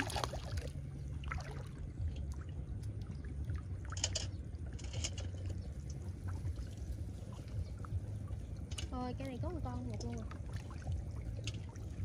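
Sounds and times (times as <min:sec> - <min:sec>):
low rumble: 0:00.0 - 0:12.0
water splashing and sloshing: 0:00.0 - 0:12.0.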